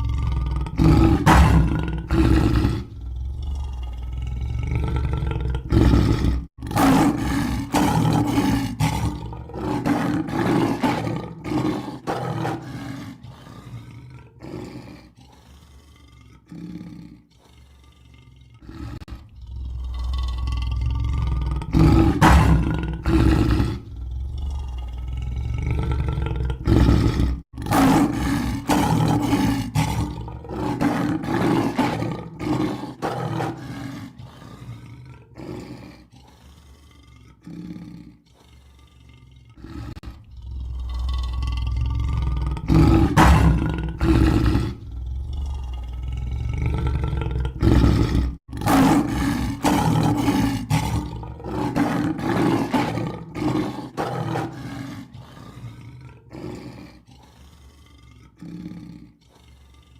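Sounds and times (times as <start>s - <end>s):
lion growling: 0.0s - 59.9s
lion roaring: 0.0s - 59.9s.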